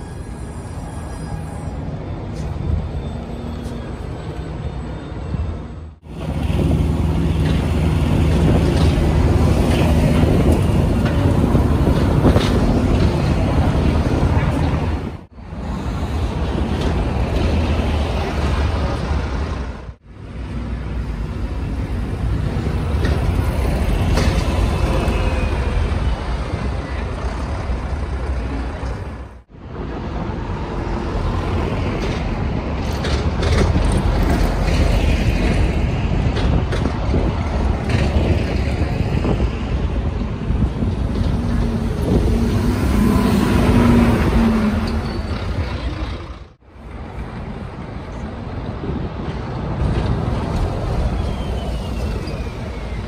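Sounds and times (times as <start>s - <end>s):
bus engines running: 0.0s - 53.0s
traffic low rumble: 1.7s - 53.0s.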